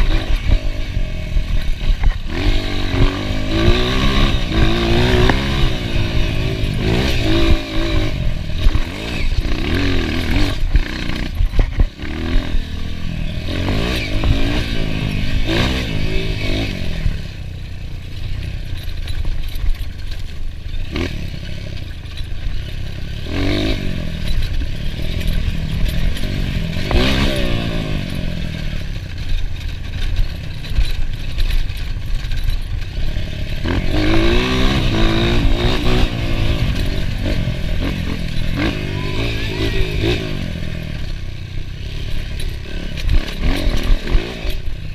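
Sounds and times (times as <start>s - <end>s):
bike clattering over rough ground: 0.0s - 44.9s
dirt bike engine revving: 0.0s - 44.9s.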